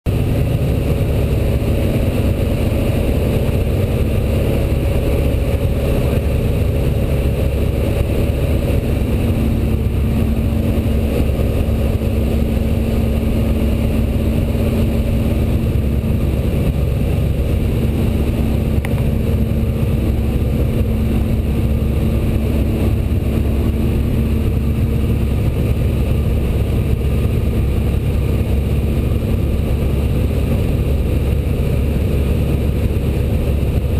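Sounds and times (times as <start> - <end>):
radial piston engine droning: 0.1 - 33.9.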